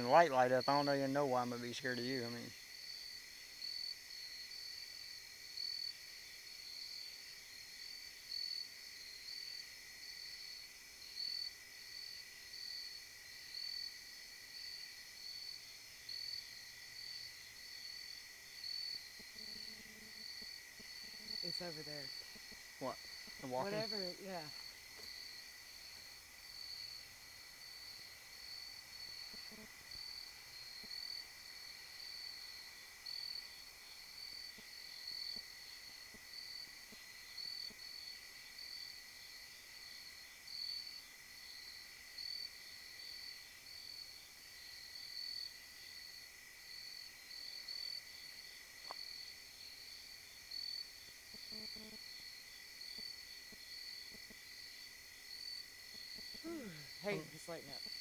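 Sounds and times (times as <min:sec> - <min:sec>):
cricket chirping: 0:00.0 - 0:58.0
thin insect trill: 0:00.0 - 0:58.0.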